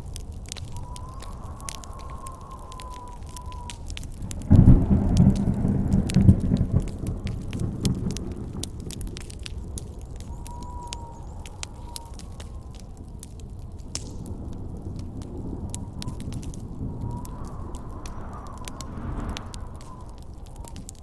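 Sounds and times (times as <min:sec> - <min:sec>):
campfire crackling and popping: 0:00.0 - 0:21.0
faint whistling wind: 0:00.0 - 0:21.0
thunderclap with low rumble: 0:00.0 - 0:21.0.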